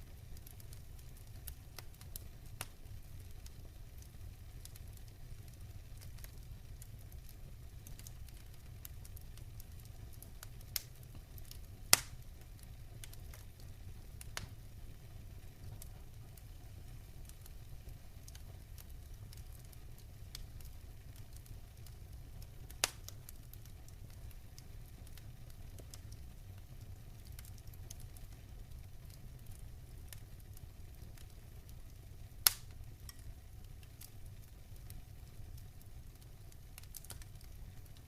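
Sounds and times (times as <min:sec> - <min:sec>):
wood fire crackling: 0:00.0 - 0:38.0
sharp pops from burning logs: 0:00.1 - 0:14.6, 0:15.6 - 0:38.0.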